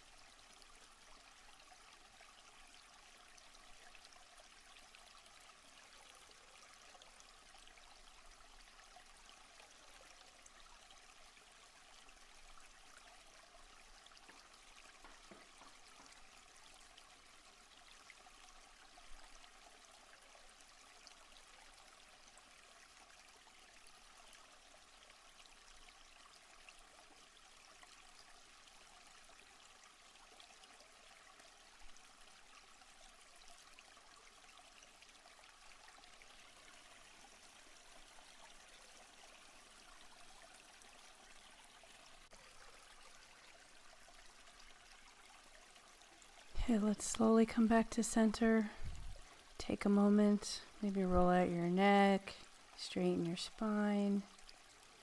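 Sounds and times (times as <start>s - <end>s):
faint stream running: 0.0s - 55.0s.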